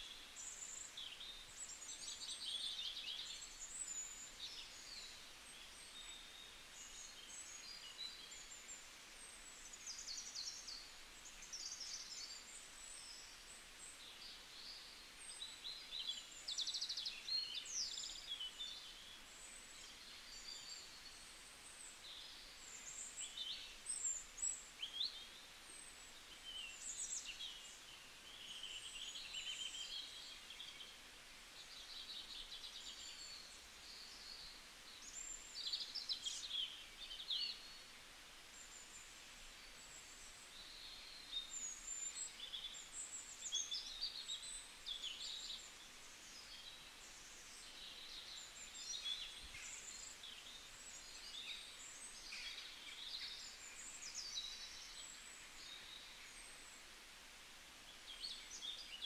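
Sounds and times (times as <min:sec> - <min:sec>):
faint steady hiss: 0:00.0 - 0:59.0
small birds chirping: 0:00.0 - 0:59.0.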